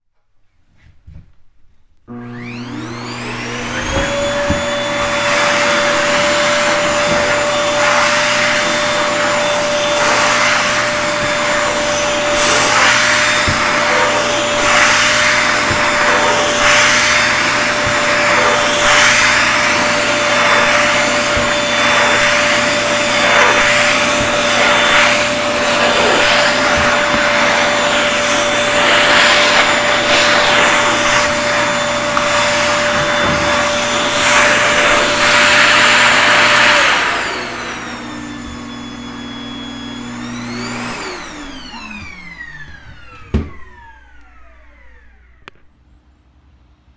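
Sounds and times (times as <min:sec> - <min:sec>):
vacuum cleaner motor whine: 0:02.0 - 0:46.7.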